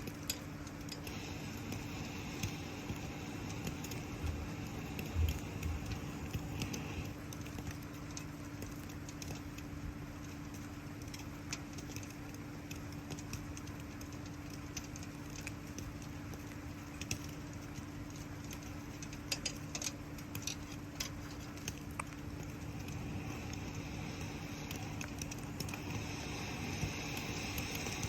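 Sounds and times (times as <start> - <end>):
campfire crackling and popping: 0.0 - 28.0
low hum: 0.0 - 28.0
rain patter: 0.0 - 28.0.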